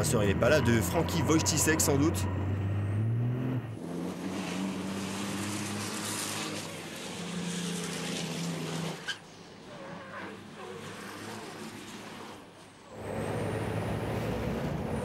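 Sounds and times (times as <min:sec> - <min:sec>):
diesel truck engines racing: 0:00.0 - 0:15.0.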